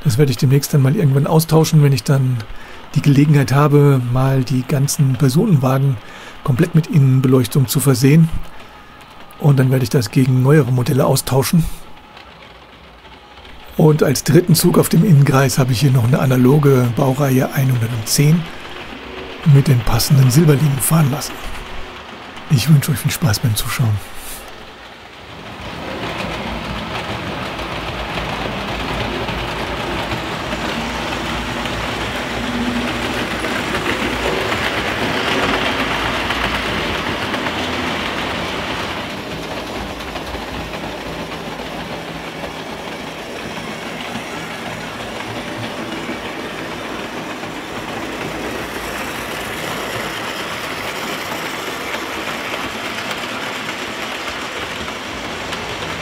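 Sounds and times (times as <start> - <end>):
model trains running on metal track: 0.0 - 56.0.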